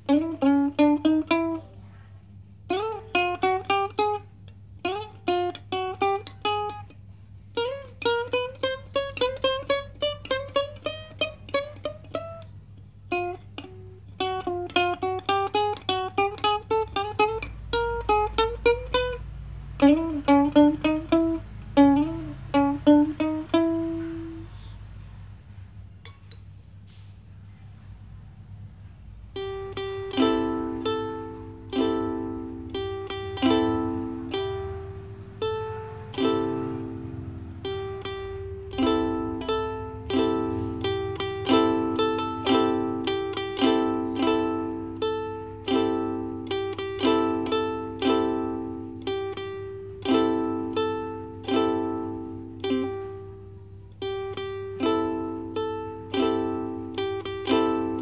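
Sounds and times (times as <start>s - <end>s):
faint low hum: 0.0s - 58.0s
ukulele melody: 0.0s - 58.0s.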